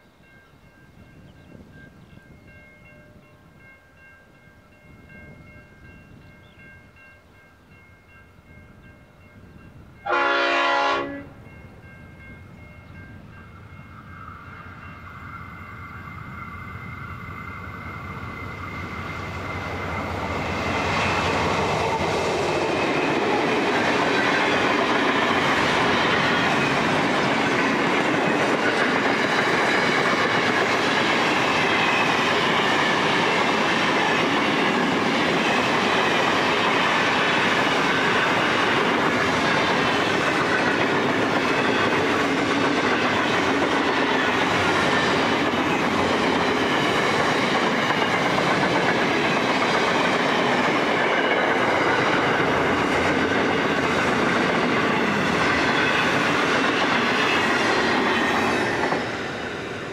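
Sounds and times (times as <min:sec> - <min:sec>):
train wheels rattling on rail: 0:01.1 - 0:59.9.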